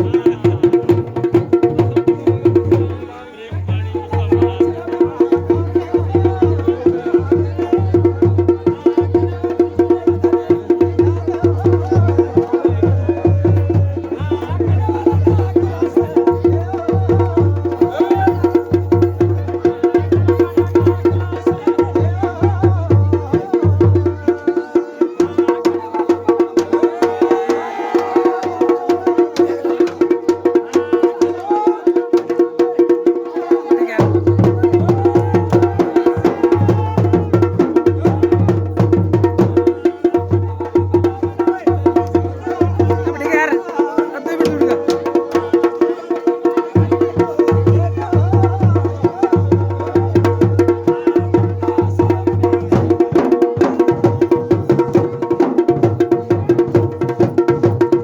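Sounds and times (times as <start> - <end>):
deep bass drum beats: 0.0 - 24.5, 33.9 - 45.8, 46.5 - 58.0
drums in a fast rhythm: 0.0 - 58.0.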